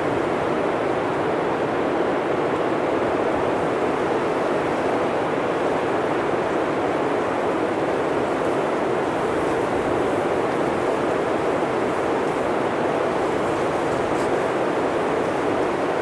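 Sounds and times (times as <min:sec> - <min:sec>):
blizzard wind blowing: 0:00.0 - 0:16.0.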